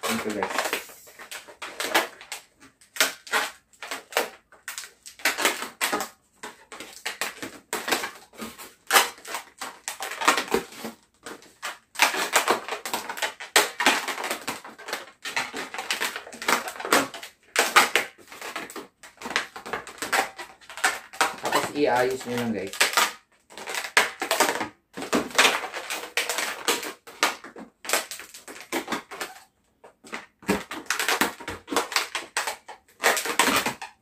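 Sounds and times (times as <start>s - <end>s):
balloons squeaking and rubbing: 0.0s - 4.4s, 7.9s - 24.5s, 25.1s - 34.0s.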